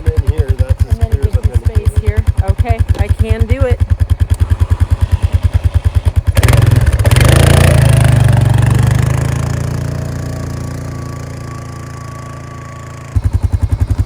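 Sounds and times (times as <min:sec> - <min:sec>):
vehicle engine cranking and starting: 0:00.0 - 0:14.0.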